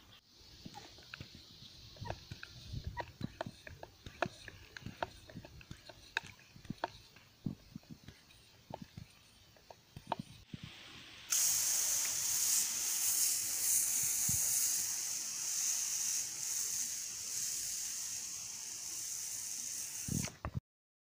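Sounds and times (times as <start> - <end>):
garden sprayer hissing jet: 0.3 - 20.5.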